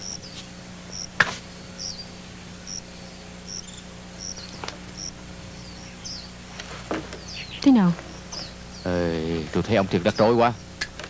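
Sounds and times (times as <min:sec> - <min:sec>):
crickets chirping: 0:00.0 - 0:10.8
low steady hum: 0:00.0 - 0:11.0.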